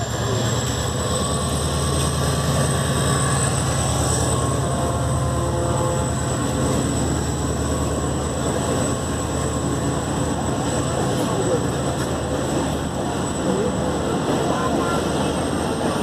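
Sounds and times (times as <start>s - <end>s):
diesel locomotive engine rumbling: 0.0s - 16.0s
train coaches rolling over track: 0.0s - 16.0s.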